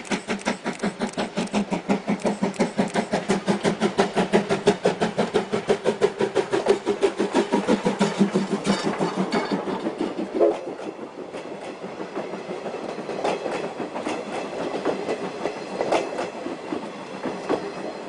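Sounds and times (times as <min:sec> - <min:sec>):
train wheels rumbling on rails: 0:00.0 - 0:18.0
wheels clicking over rail joints: 0:00.0 - 0:18.0.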